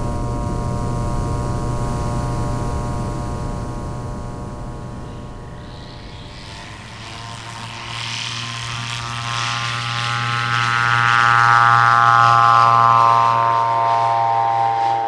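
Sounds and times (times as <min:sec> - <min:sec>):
airplane engine and propeller drone: 0:00.0 - 0:15.0.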